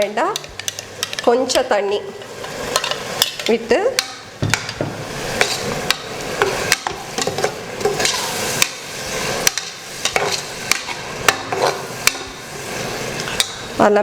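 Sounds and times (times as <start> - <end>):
light sizzle of cooking: 0.0 - 14.0
metal spoon scraping cookware: 2.1 - 13.7.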